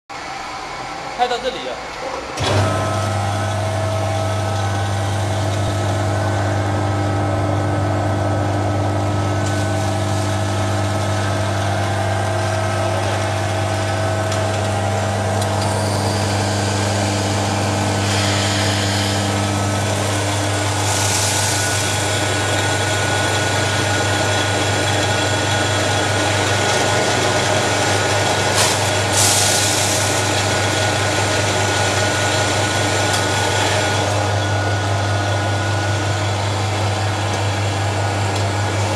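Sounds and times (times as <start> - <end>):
machine humming: 0.1 - 38.9.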